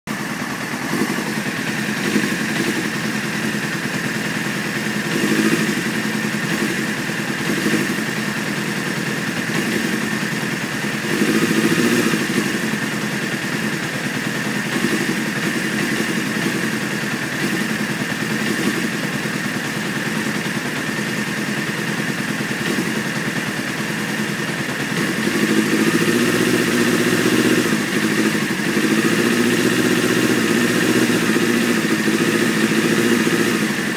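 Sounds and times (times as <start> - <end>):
motorcycle engine idling roughly: 0.1 - 33.9.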